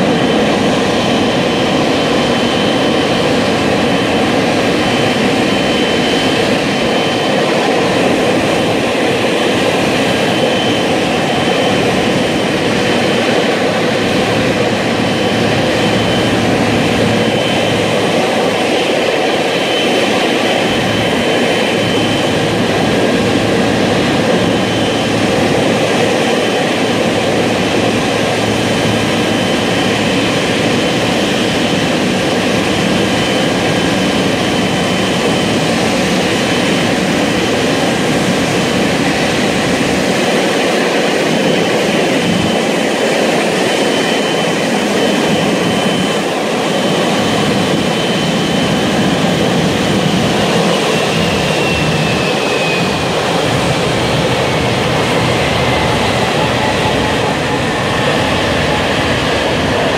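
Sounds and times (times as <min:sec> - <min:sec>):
jet engines taxiing: 0:00.0 - 0:59.9.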